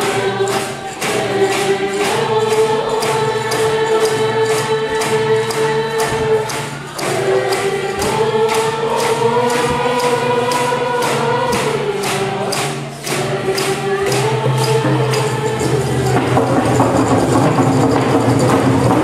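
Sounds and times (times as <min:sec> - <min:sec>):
frame hand drums beating: 0:00.0 - 0:19.0
group chanting in unison: 0:00.0 - 0:19.0.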